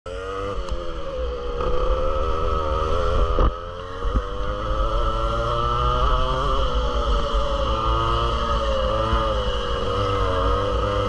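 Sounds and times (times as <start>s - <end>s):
two-stroke kart engine buzzing: 0.1s - 11.0s.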